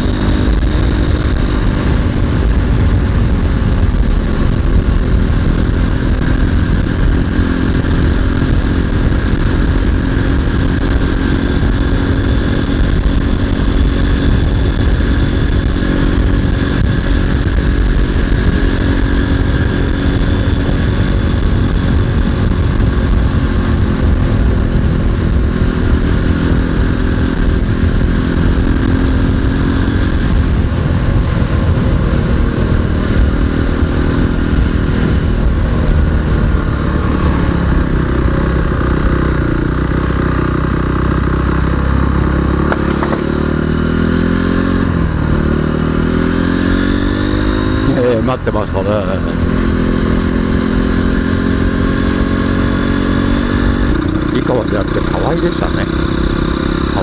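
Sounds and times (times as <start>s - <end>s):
motorcycle engine cruising: 0.0s - 57.0s
wind rumble: 0.0s - 57.0s.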